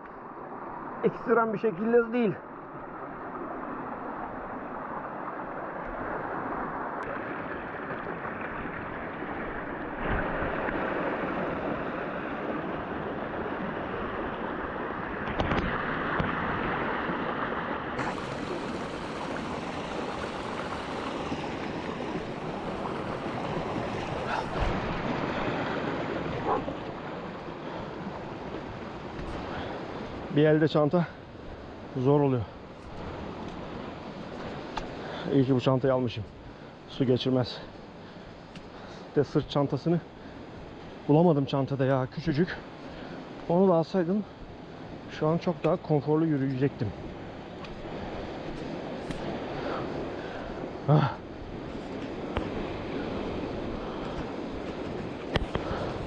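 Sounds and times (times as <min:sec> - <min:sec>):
stream rushing over rocks: 0:00.1 - 0:56.0.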